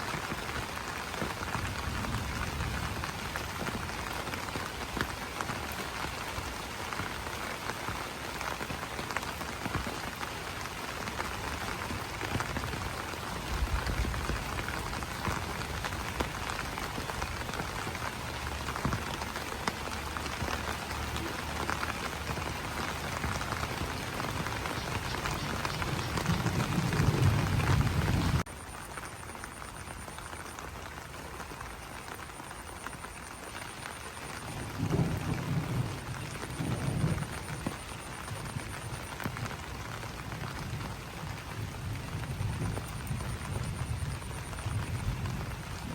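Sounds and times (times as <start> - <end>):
rain pattering on leaves: 0.0 - 45.9.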